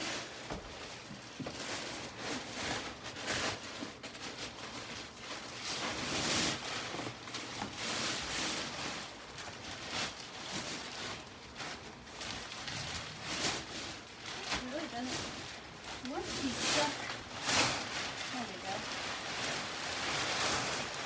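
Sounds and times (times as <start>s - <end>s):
mattress wrapping rustling: 0.0s - 21.0s.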